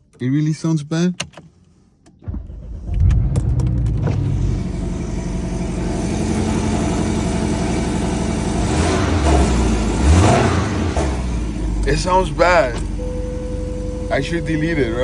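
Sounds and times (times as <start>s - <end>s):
car engine starting and idling: 0.0s - 15.0s.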